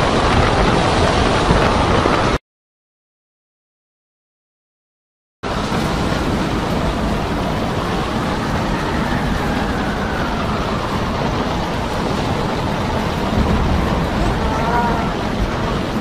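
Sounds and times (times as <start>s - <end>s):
heavy sea: 0.0s - 2.4s, 5.4s - 16.0s
storm wind roaring: 0.0s - 2.4s, 5.4s - 16.0s
wind buffeting microphone: 0.0s - 2.4s, 5.4s - 16.0s.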